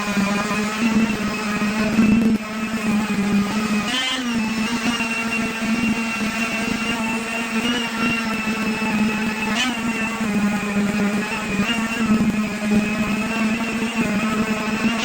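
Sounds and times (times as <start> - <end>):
electric sander motor whine: 0.0 - 15.0.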